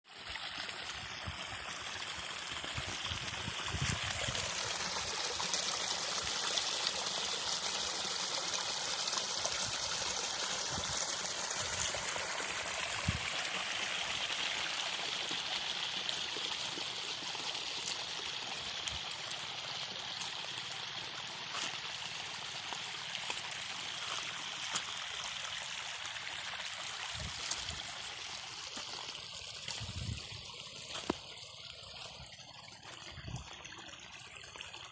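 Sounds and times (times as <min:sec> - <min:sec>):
water running and splashing: 0:00.1 - 0:34.9.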